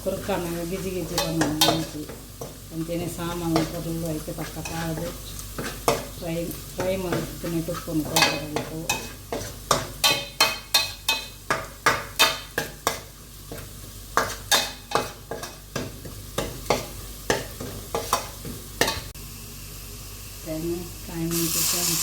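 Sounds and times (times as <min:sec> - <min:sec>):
spoon scraping a pan: 0:00.0 - 0:19.2
faint sizzle: 0:00.0 - 0:22.0.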